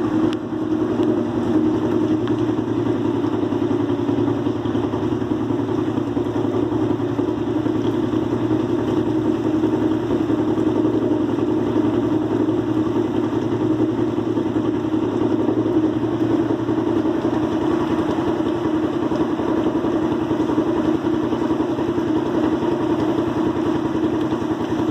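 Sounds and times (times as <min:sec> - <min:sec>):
deep hum: 0:00.0 - 0:24.9
engine idling: 0:00.0 - 0:24.9.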